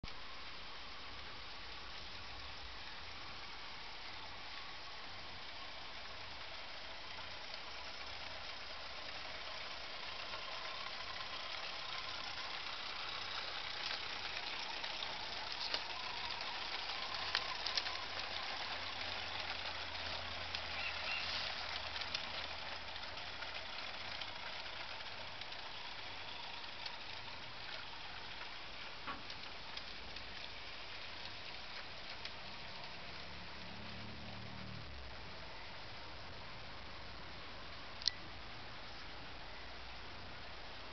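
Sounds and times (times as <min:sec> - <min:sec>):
wheels clicking on rails: 0:00.0 - 0:40.9.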